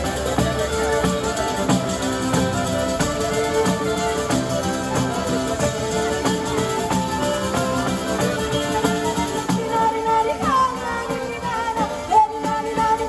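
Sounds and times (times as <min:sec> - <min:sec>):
live folk band playing: 0:00.0 - 0:13.0.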